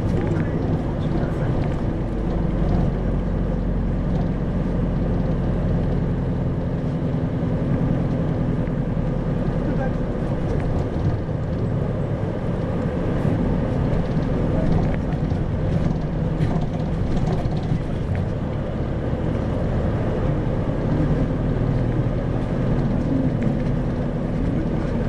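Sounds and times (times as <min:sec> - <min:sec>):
bus diesel engine humming: 0:00.0 - 0:25.0
road rumble: 0:00.0 - 0:25.0.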